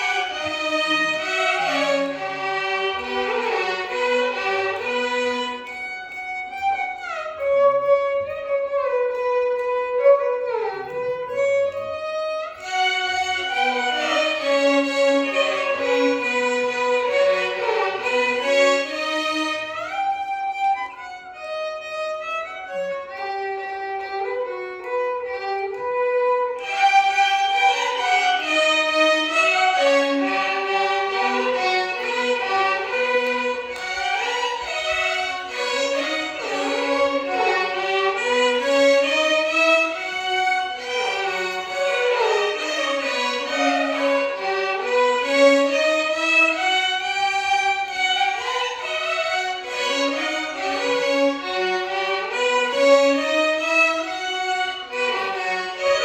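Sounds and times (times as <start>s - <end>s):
violin ensemble playing melody: 0.0s - 56.0s.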